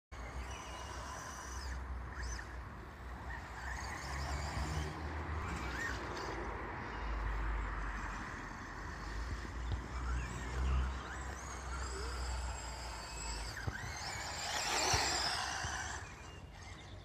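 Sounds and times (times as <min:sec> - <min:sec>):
electric toy truck motor whine: 0:00.2 - 0:17.0.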